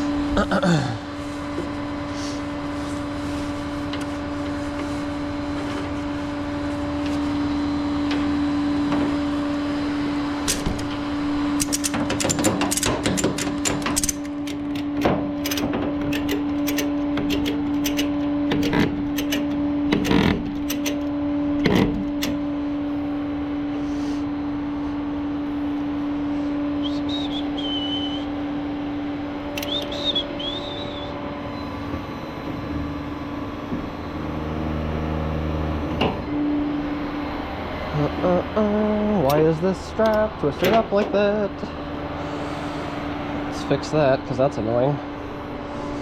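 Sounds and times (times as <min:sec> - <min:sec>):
low deep drone: 0:00.0 - 0:12.0, 0:13.8 - 0:46.0
mechanical hum: 0:00.0 - 0:46.0.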